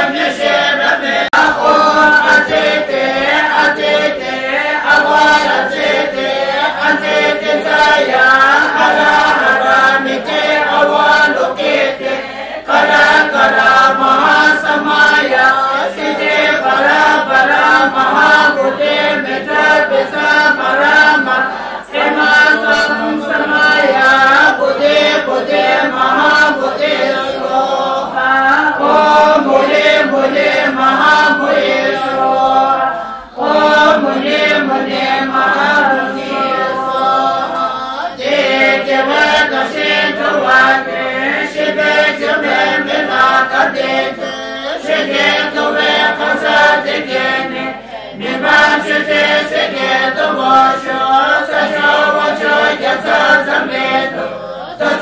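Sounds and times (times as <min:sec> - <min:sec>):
group chanting prayers: 0:00.0 - 0:55.0.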